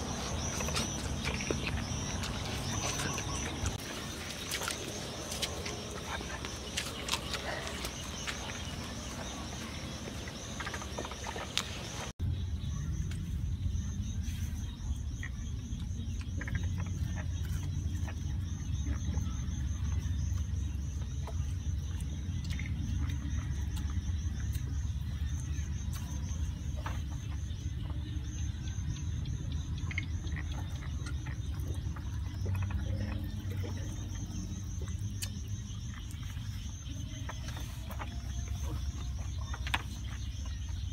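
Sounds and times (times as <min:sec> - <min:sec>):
insect chirping: 0:00.0 - 0:40.9.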